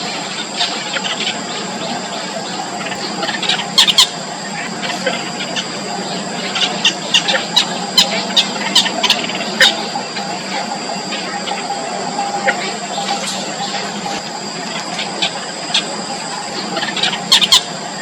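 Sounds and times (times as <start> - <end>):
nestlings cheeping: 0.0 - 18.0
steady high whine: 0.0 - 18.0.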